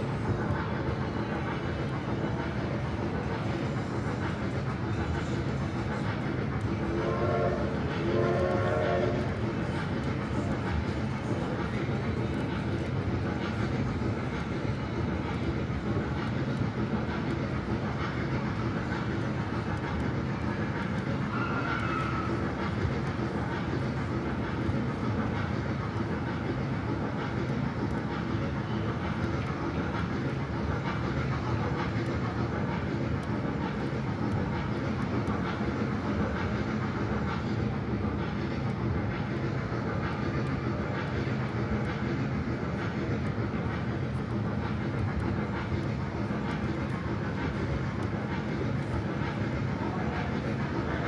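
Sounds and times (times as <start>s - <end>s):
ride-on train rumbling: 0.0s - 51.0s.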